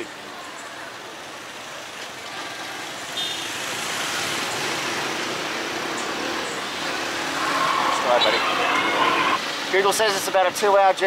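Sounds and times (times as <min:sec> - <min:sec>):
motorbike engine and tyre noise: 0:00.5 - 0:10.3.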